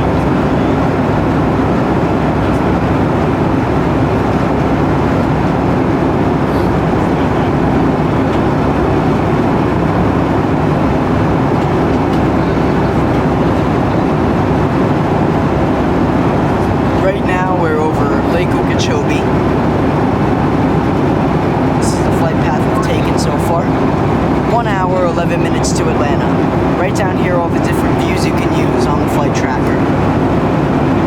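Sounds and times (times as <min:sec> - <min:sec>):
aircraft cabin roar: 0:00.0 - 0:31.0.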